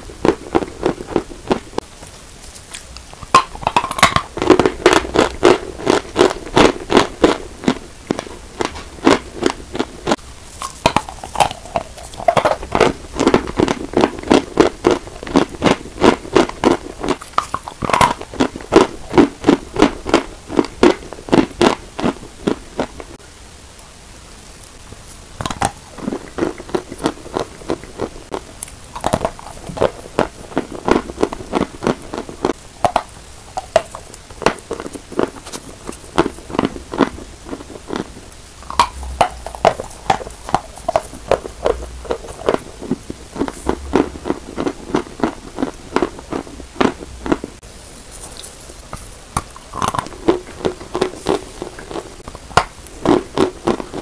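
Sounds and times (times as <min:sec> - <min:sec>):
person chewing chalk crunches: 0:00.2 - 0:23.1, 0:25.4 - 0:54.0.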